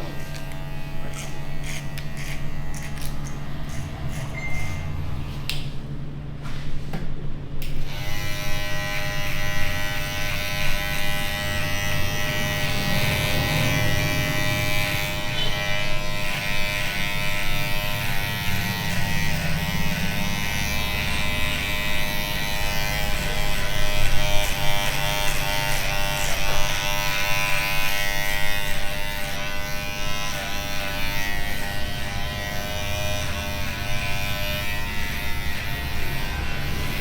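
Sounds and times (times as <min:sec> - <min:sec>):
electric hair clippers buzzing: 0:00.0 - 0:05.7, 0:07.6 - 0:37.0.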